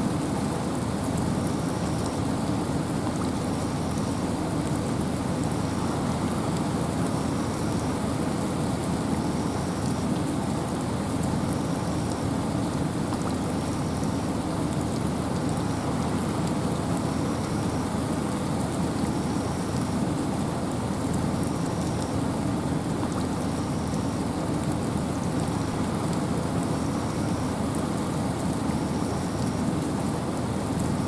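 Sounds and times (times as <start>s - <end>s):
wind and rain hiss: 0.0s - 31.0s.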